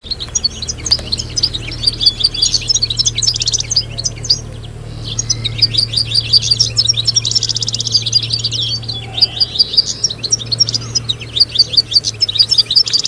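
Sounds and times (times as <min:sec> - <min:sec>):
finches chirping and trilling: 0:00.0 - 0:13.0
steady low hum: 0:00.0 - 0:13.0.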